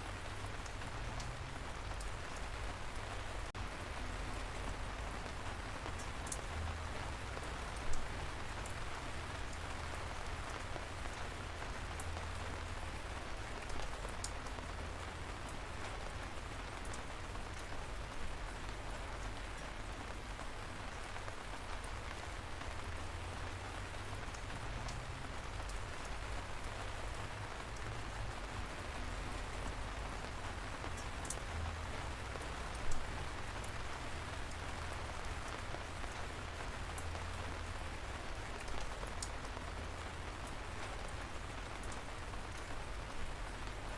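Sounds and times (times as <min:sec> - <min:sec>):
light rain falling: 0:00.0 - 0:43.9
raindrops ticking: 0:00.1 - 0:43.9.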